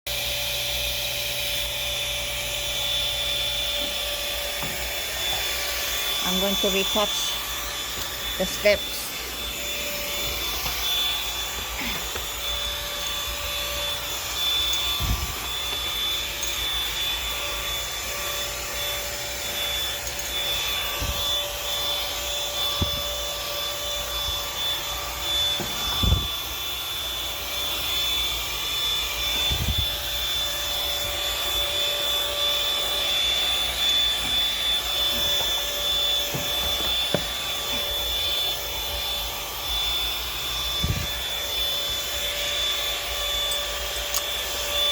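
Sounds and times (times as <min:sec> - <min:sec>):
vacuum cleaner whining: 0:00.1 - 0:44.9.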